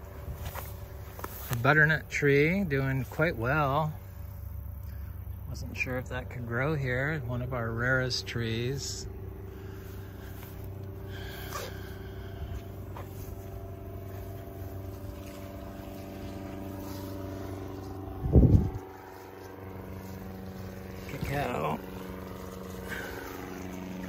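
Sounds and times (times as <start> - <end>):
small engine humming: 0.0 - 24.0.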